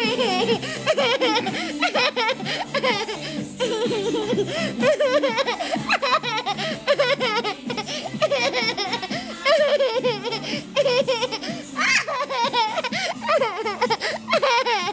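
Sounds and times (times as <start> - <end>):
girl laughing: 0.0 - 14.9.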